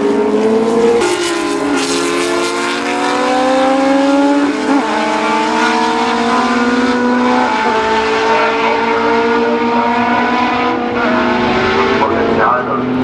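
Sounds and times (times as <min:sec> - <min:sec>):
racing car engine accelerating: 0:00.0 - 0:13.0
second racing car: 0:00.0 - 0:13.0.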